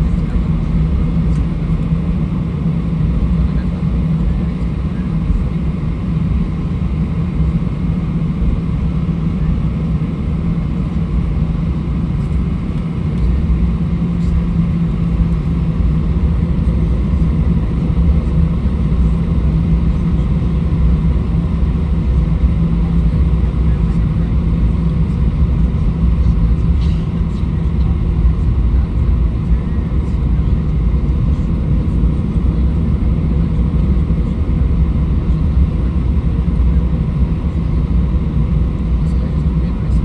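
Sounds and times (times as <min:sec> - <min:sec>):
jet engine cabin hum: 0:00.0 - 0:40.0.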